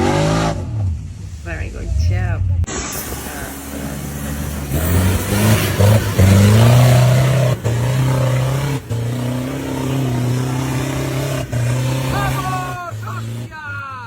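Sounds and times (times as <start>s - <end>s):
off-road engine revving hard: 0.0s - 1.2s, 2.1s - 14.0s.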